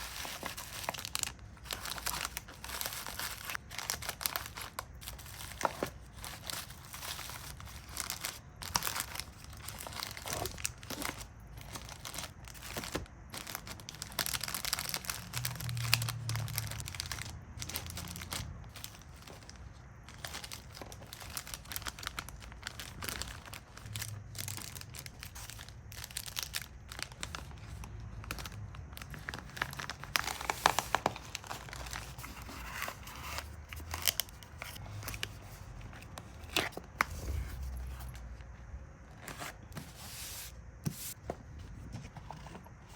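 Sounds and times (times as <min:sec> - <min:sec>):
packaging crinkling and rustling: 0:00.0 - 0:42.9.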